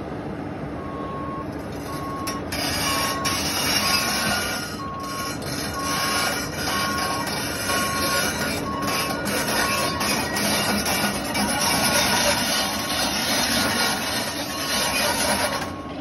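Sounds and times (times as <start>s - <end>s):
excavator diesel engine and hydraulics: 0.0s - 16.0s
alarm beeping: 0.8s - 16.0s.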